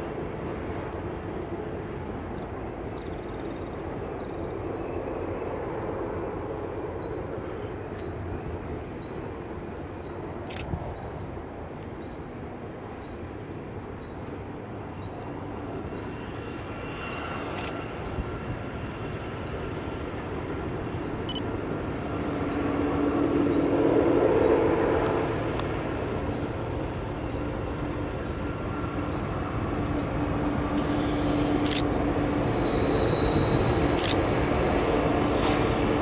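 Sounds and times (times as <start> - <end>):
steady engine hum: 0.0 - 32.5
diesel locomotives running: 0.0 - 36.0.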